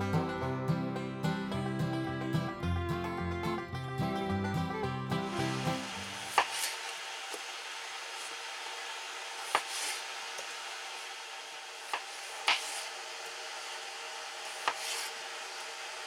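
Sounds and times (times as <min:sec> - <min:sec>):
faint steady hiss: 0:02.4 - 0:16.0.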